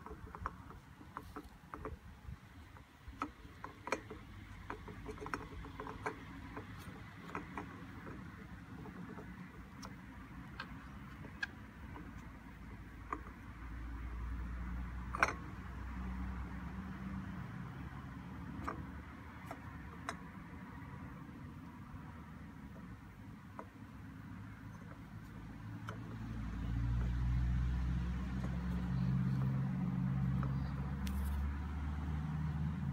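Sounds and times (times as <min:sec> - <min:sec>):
low engine hum: 0:00.0 - 0:32.9.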